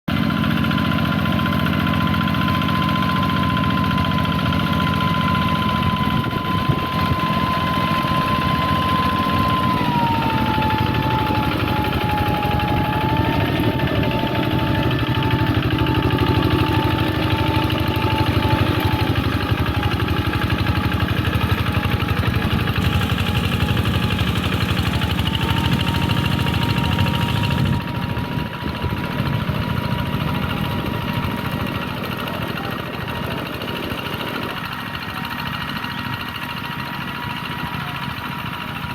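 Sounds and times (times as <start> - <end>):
hand tractor engine running: 0.1 - 38.9.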